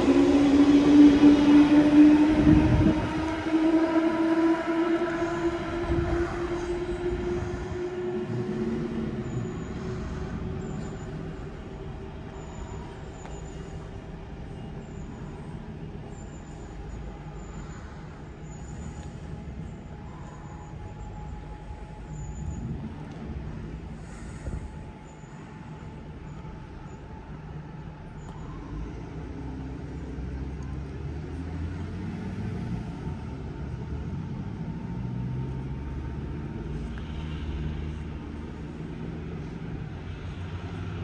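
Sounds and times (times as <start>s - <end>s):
train pulling away: 0.0s - 41.0s.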